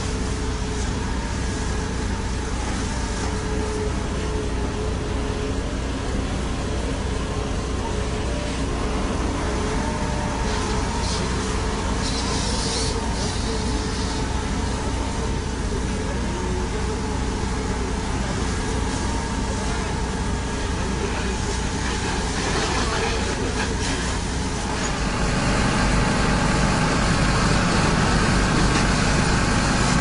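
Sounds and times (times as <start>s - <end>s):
heavy vehicle engine running: 0.0s - 30.0s.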